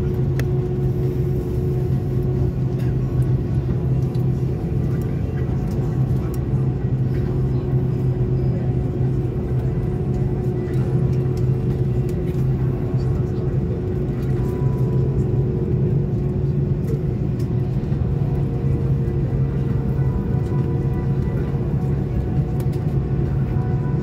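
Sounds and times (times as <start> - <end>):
faint higher hum: 0.0 - 24.0.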